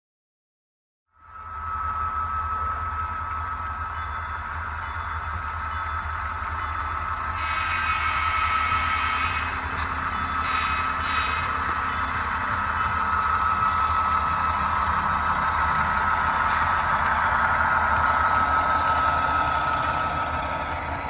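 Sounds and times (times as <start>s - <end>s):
model train motor whine: 1.3s - 21.0s.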